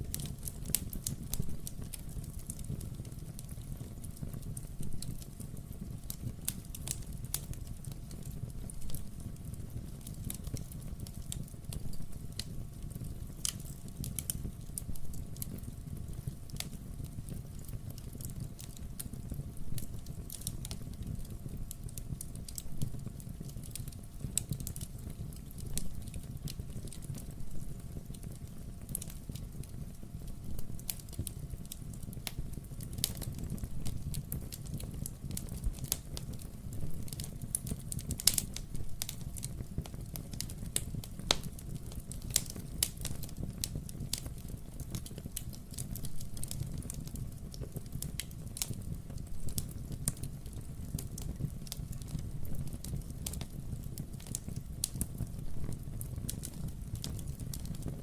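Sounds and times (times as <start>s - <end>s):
fireplace crackling: 0.0s - 58.0s
low rumble of fire: 0.0s - 58.0s.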